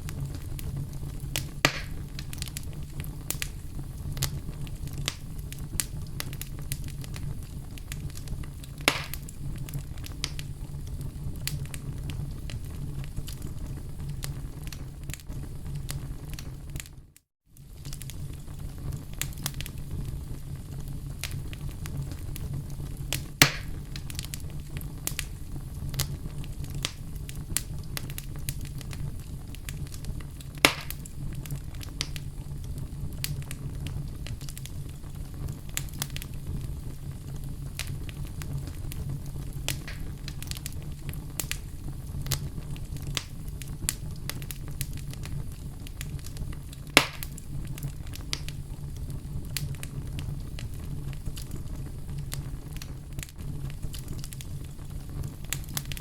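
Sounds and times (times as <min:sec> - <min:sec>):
campfire crackling: 0:00.0 - 0:17.0, 0:17.6 - 0:56.0
loud fire pops: 0:00.0 - 0:56.0
low rumble of burning wood: 0:00.0 - 0:56.0.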